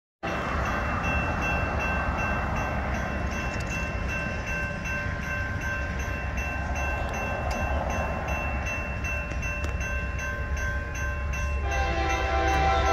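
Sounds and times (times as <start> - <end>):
crossing warning bell ringing: 0.2 - 12.9.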